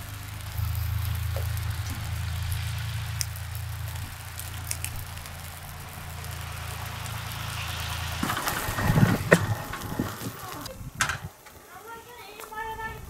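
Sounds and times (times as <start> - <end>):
engine idling: 0.0 - 11.4
uneven rumble: 0.0 - 11.7
wood fire crackling: 0.0 - 13.0.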